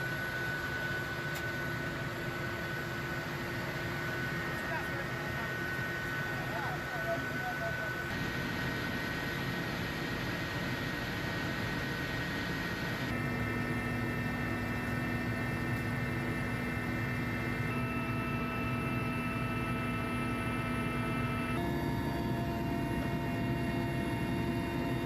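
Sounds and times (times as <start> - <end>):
aircraft engines droning: 0.0 - 25.0.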